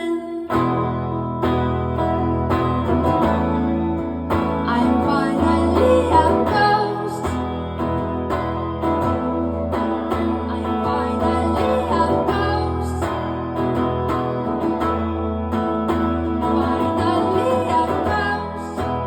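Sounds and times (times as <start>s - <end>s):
person singing: 0.0s - 1.2s, 2.0s - 14.8s, 16.3s - 19.0s
band music with guitars: 0.0s - 19.0s.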